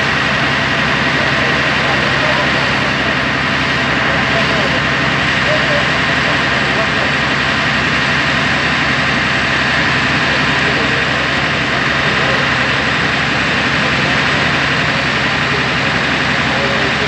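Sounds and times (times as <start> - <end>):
fire truck engine drone: 0.0 - 17.0.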